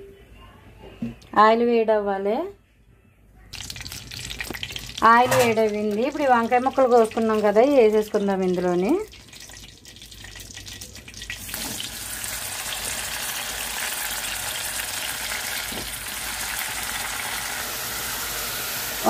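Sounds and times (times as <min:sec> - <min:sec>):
frying sizzle: 0:03.5 - 0:19.0.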